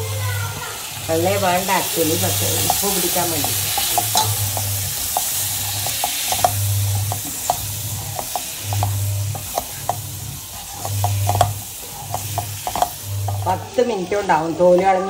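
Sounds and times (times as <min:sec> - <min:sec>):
soft oil sizzle: 0:00.0 - 0:15.0
low hum: 0:01.2 - 0:13.8
wooden spatula scraping a pan: 0:01.4 - 0:13.8.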